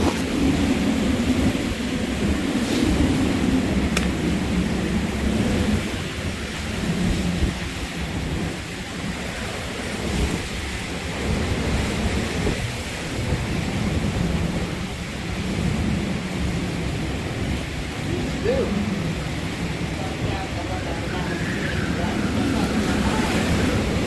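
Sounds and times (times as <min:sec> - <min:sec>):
driving rain: 0:00.0 - 0:24.0
wind gusting: 0:00.0 - 0:24.0
wind rumbling on microphone: 0:00.0 - 0:24.0.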